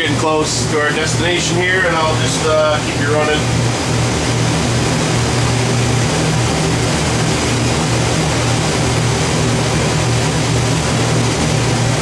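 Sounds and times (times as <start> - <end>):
boat engines droning: 0.0 - 12.0
water rushing: 0.0 - 12.0.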